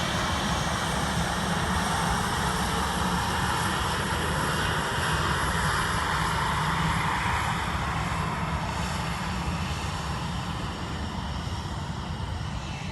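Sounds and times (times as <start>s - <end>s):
jet engine roar: 0.0s - 12.9s.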